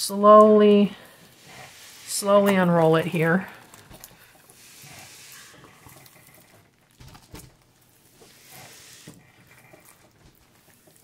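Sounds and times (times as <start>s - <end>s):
canvas and plastic film crinkling: 0.8s - 11.0s.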